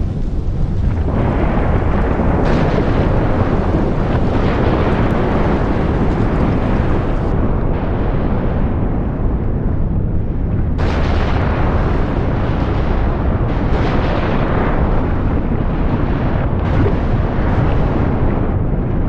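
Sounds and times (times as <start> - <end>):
volcanic eruption rumble and roar: 0.0 - 19.0.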